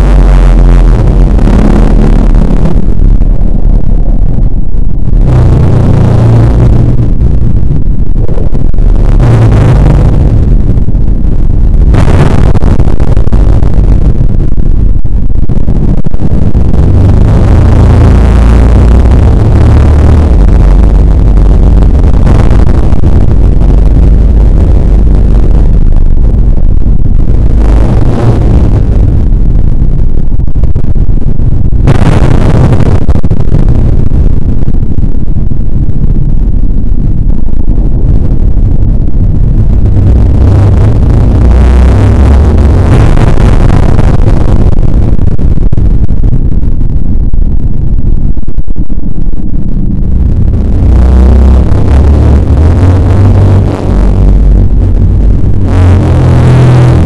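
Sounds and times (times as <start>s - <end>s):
loud continuous low rumble: 0.0s - 57.0s.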